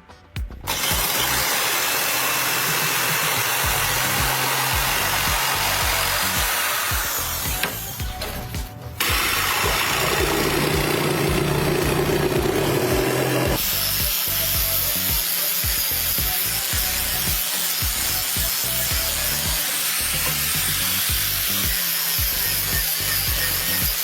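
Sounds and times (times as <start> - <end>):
background music with steady beat: 0.0 - 24.0
power tool running: 0.7 - 24.0.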